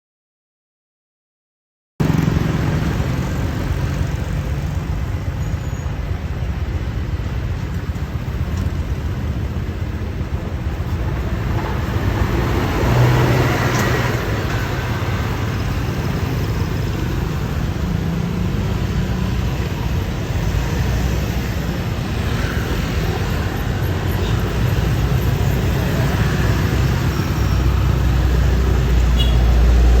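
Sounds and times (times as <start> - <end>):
road and traffic noise: 2.0 - 30.0.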